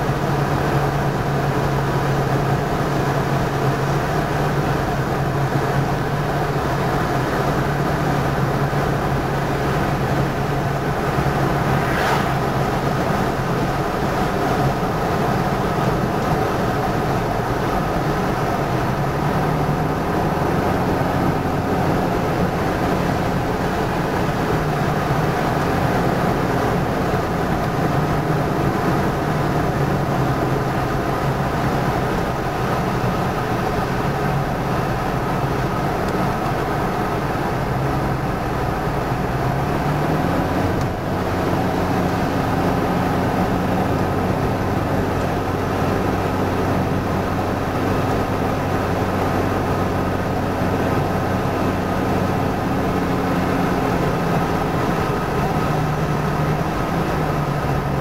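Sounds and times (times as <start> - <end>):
car tyre and engine hum: 0.0 - 58.0.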